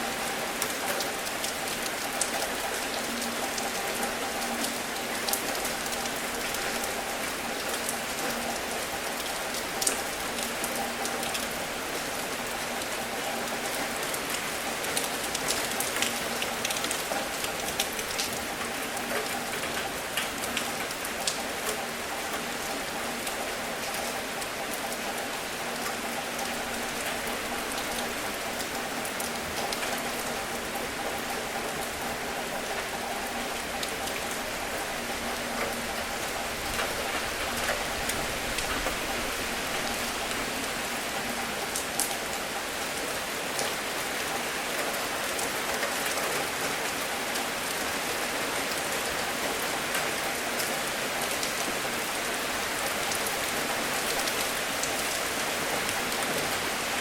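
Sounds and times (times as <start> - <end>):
gentle rain falling: 0.0 - 57.0
raindrops ticking on a surface: 0.0 - 57.0.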